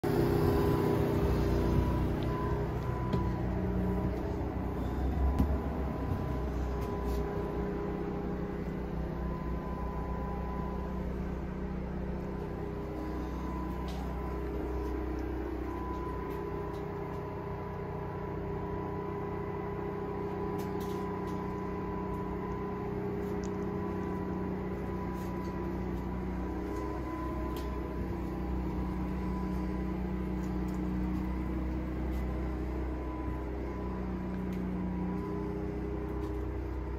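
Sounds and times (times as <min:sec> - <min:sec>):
low machine hum with whine: 0:00.0 - 0:36.9.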